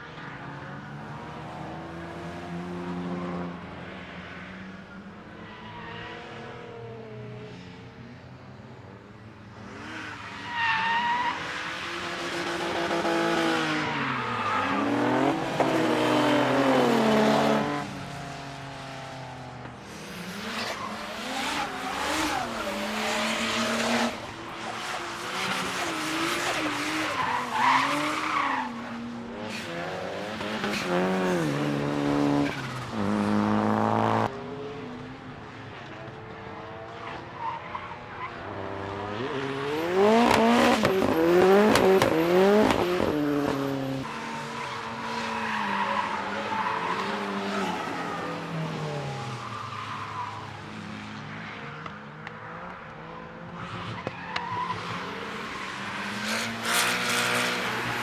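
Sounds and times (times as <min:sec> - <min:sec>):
race car engines revving: 0:09.4 - 0:58.0.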